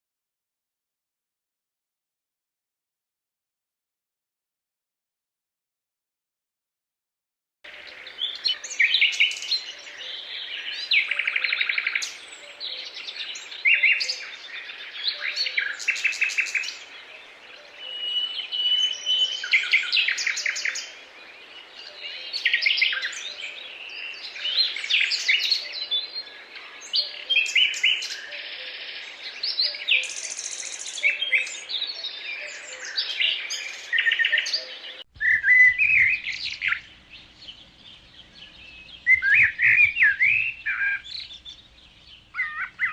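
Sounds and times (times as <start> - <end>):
birds singing and calling: 7.7 - 42.9.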